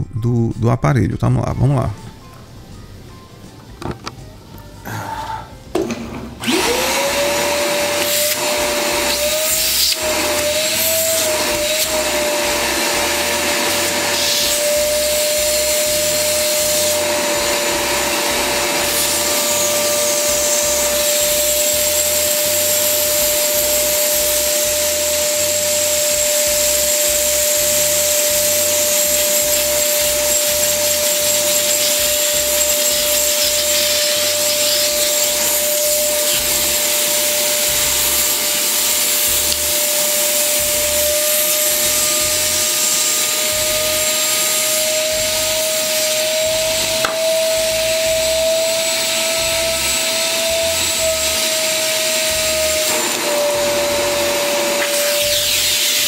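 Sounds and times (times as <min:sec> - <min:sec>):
vacuum cleaner running: 0:05.1 - 0:56.0.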